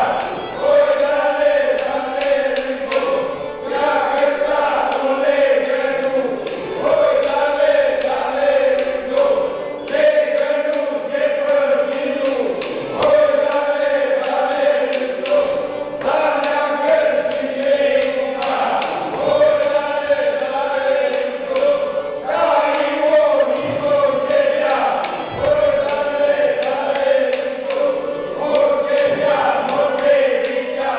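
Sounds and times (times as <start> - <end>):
group of voices chanting: 0.0 - 30.9.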